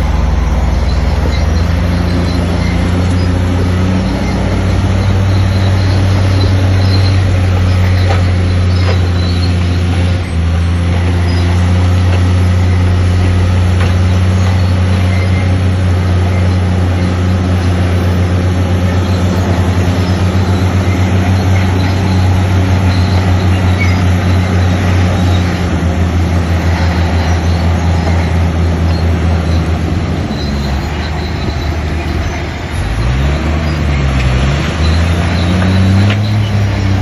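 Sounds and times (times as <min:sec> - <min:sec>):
diesel engine throbbing drone: 0:00.0 - 0:37.0.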